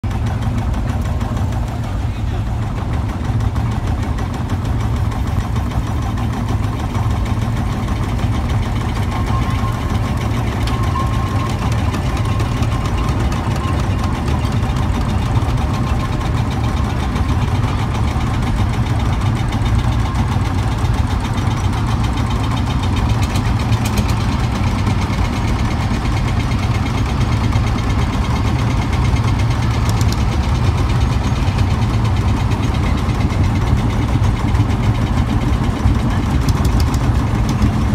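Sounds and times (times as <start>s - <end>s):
tractor engines knocking: 0.0s - 37.9s.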